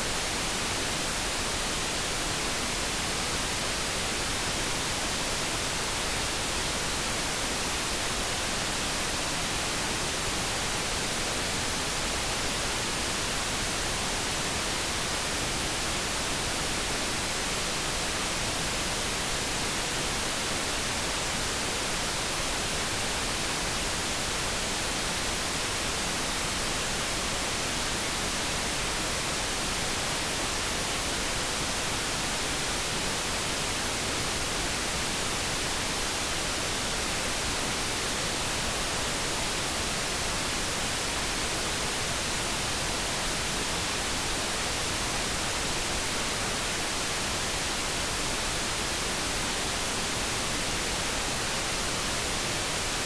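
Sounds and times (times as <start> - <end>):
brown noise hiss: 0.0 - 53.0.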